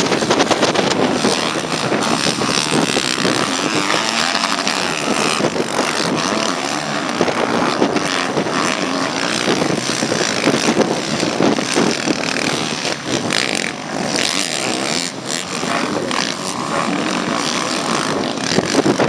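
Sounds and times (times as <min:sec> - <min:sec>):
motocross bike engines racing: 0:00.0 - 0:19.0.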